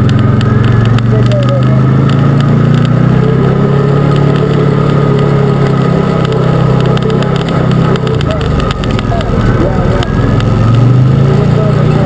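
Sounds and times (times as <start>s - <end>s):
loud engine running: 0.0s - 12.0s.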